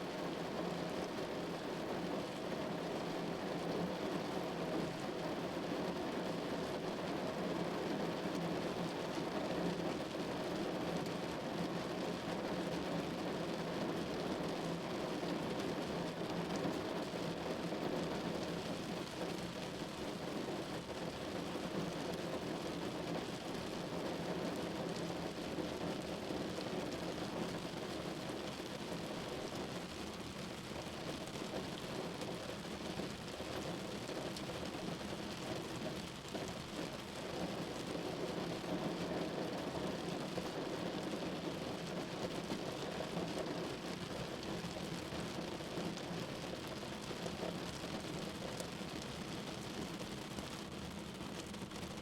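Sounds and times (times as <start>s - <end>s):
steady rain patter: 0.0s - 52.0s.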